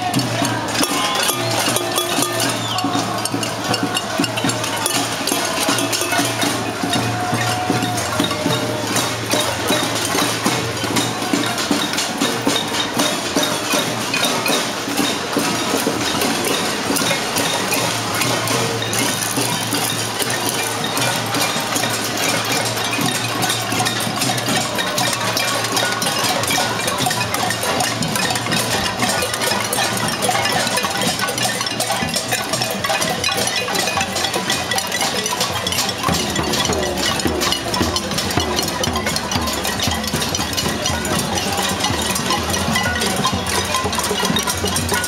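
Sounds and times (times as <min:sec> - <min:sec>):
pots beaten with spoons: 0:00.0 - 0:45.0.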